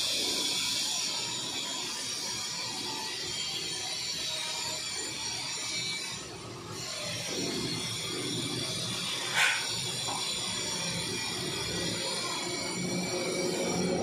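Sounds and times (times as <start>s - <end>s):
steady background hum: 0.0s - 4.1s, 4.7s - 14.0s.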